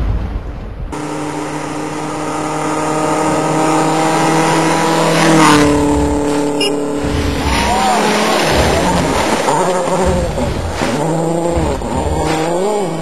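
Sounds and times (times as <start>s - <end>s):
rally car passing by: 0.9s - 13.0s.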